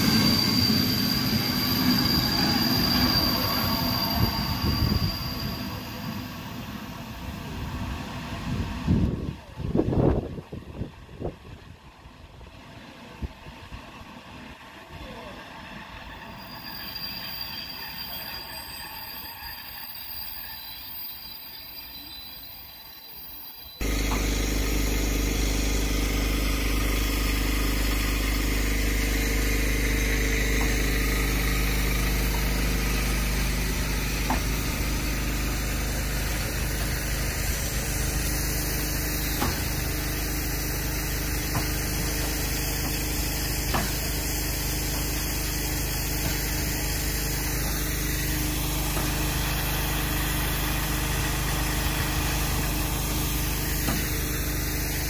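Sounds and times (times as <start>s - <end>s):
steam hissing: 0.0s - 7.6s, 15.7s - 55.0s.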